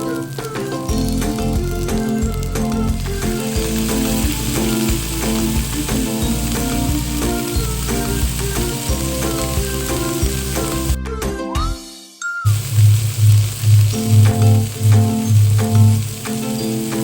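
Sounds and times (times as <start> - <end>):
fish frying in hot oil: 0.0 - 11.0, 12.5 - 17.0
background music: 0.0 - 12.6, 13.5 - 17.0.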